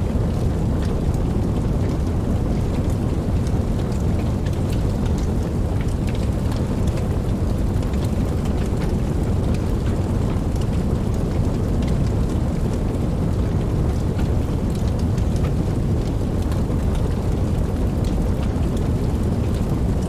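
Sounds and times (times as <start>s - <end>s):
raindrops ticking: 0.0s - 20.0s
steady rain falling: 0.0s - 20.0s.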